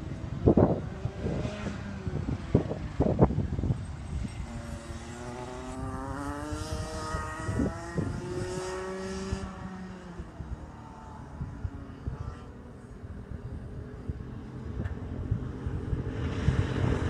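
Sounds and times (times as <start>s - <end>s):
kart engine accelerating: 0.0s - 17.0s.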